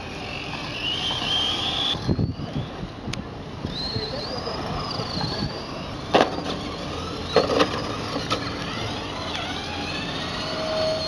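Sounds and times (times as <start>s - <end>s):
remote-control car motors whining: 0.0s - 11.0s.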